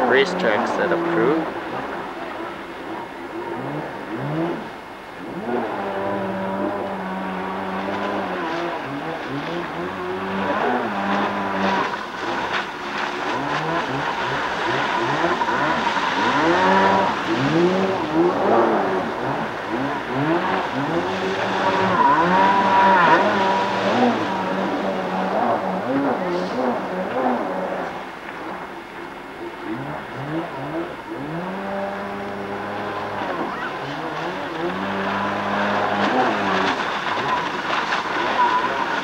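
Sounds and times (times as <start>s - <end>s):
jet ski engine revving: 0.0s - 39.0s.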